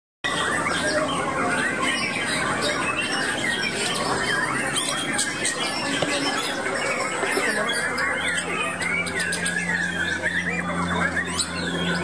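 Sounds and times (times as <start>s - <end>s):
birds singing whistled phrases: 0.2s - 12.0s.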